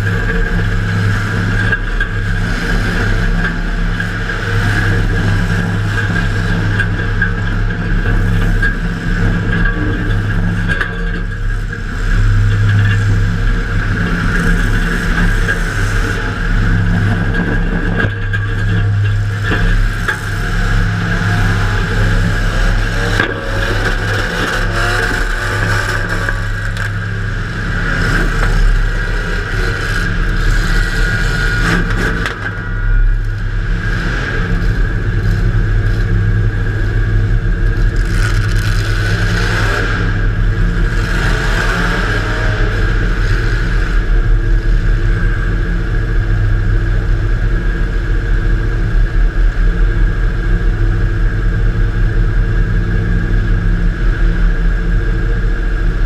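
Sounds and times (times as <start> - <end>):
car engine revving: 0.0 - 46.8.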